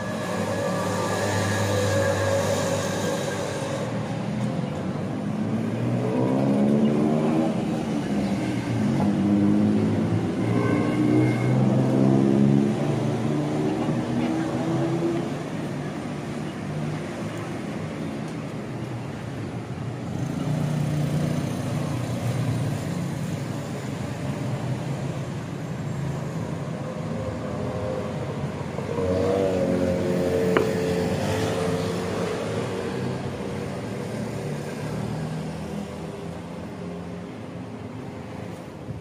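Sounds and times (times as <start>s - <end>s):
car engines passing: 0.0s - 39.0s.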